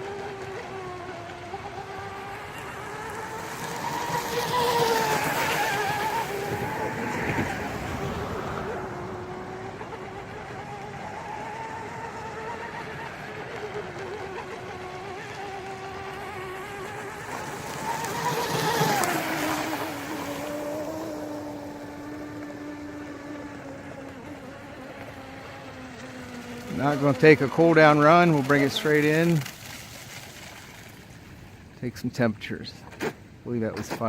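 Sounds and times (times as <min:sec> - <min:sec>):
rc speedboat motor whine: 0:00.0 - 0:31.8.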